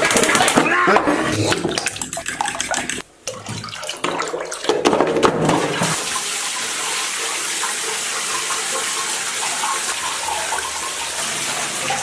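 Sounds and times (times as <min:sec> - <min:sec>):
water running: 0:00.0 - 0:12.0.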